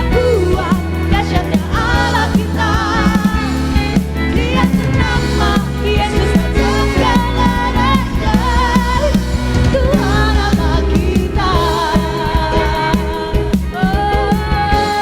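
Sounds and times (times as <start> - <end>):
bass: 0.0 - 15.0
drum beat: 0.0 - 15.0
live band playing: 0.0 - 15.0
person singing: 0.0 - 15.0.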